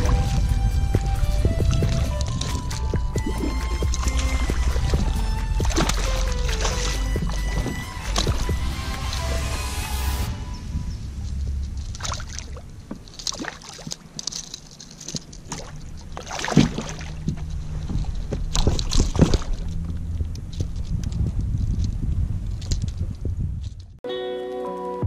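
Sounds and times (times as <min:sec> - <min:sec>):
water splashing against kayak: 0:00.0 - 0:10.2, 0:11.1 - 0:23.1
low rumble: 0:00.0 - 0:13.6, 0:15.3 - 0:24.0.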